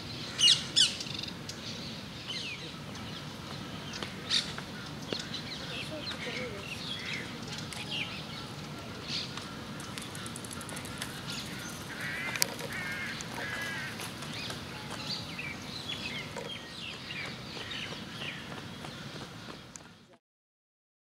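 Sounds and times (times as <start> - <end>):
birds chirping: 0.0 - 20.2
longer bird calls: 0.2 - 20.2.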